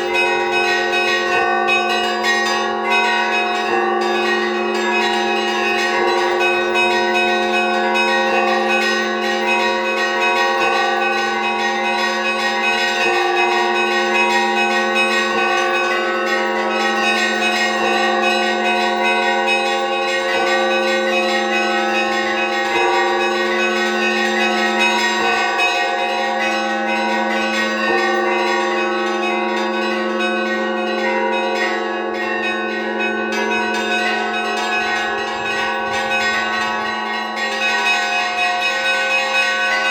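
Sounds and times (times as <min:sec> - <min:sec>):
deep bell ringing: 0:00.0 - 0:39.9
small bells striking quickly: 0:00.0 - 0:39.9.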